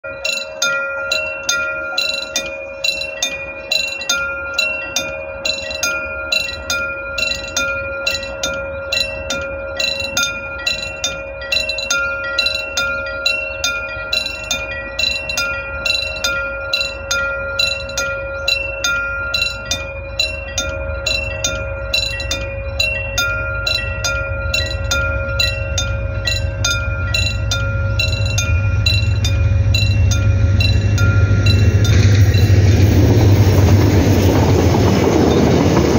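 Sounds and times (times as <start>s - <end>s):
level crossing warning bell: 0.0s - 35.9s
low train rumble: 0.0s - 35.9s.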